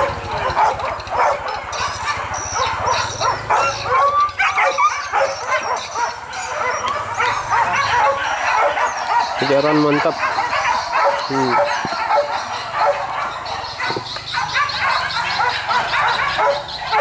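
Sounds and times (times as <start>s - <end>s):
dogs yelping and barking: 0.0s - 17.0s.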